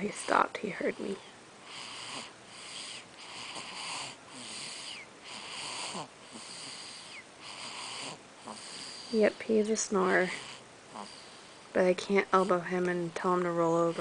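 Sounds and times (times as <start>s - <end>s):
child snoring: 0.0s - 11.4s.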